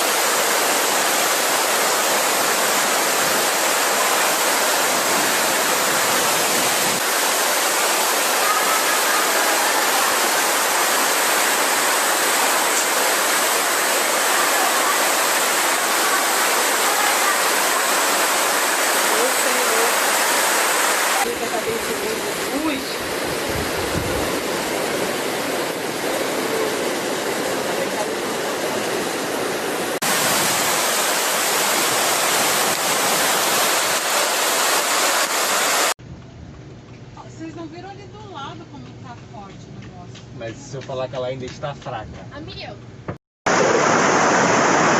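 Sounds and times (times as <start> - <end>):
rushing water: 0.0 - 36.0, 43.5 - 44.9.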